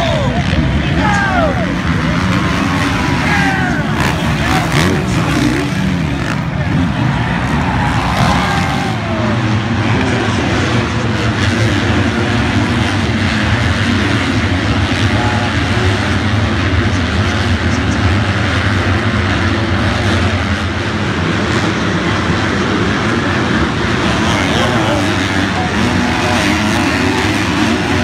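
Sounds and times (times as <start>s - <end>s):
motocross bikes racing: 0.0s - 28.0s.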